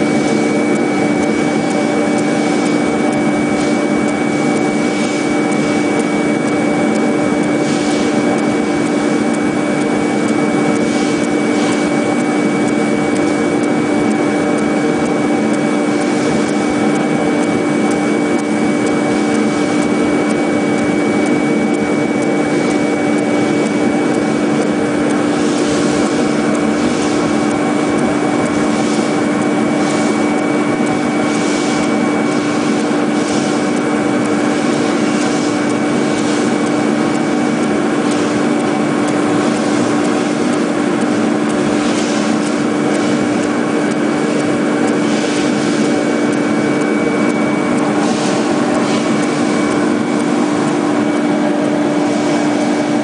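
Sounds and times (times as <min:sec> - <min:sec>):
foam-cutting machine humming: 0:00.0 - 0:53.0.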